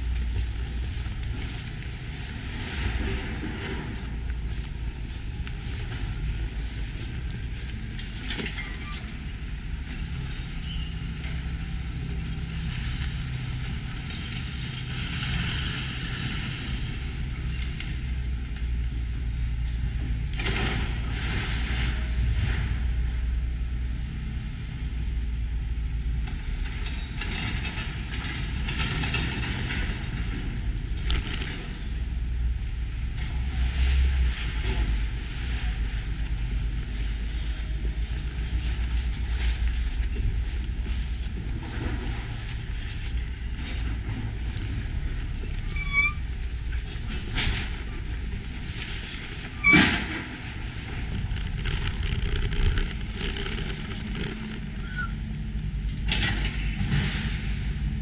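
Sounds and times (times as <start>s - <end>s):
excavator diesel engine running: 0.0s - 20.3s, 24.9s - 58.0s.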